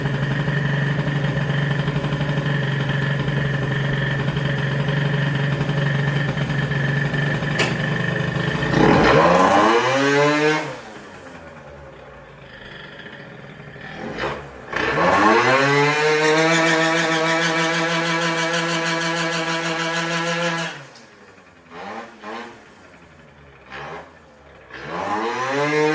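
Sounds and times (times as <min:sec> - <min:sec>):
two-stroke scooter engine revving: 0:00.0 - 0:25.9.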